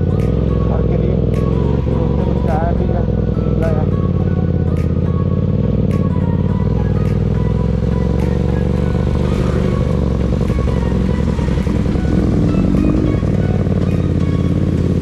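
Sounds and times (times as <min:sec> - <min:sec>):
background music: 0:00.0 - 0:15.0
motorcycle engine running: 0:00.0 - 0:15.0.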